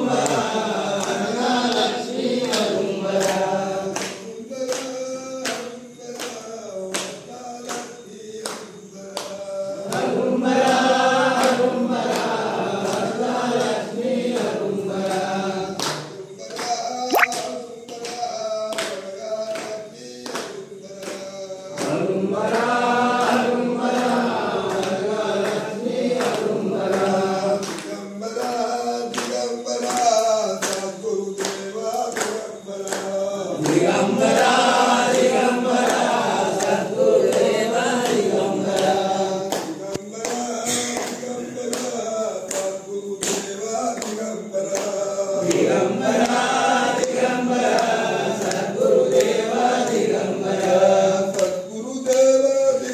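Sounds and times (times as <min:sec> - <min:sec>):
men chanting together: 0:00.0 - 0:17.0, 0:18.0 - 0:52.9.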